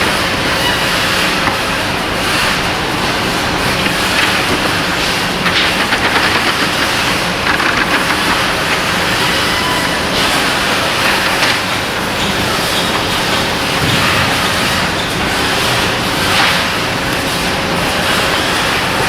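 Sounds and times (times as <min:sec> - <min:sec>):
steady mechanical noise: 0:00.0 - 0:19.0.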